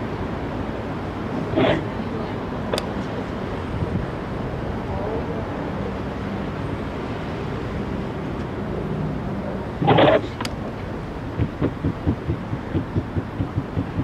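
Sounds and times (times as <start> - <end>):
low engine hum: 0.0 - 14.0
outdoor background noise: 0.0 - 14.0.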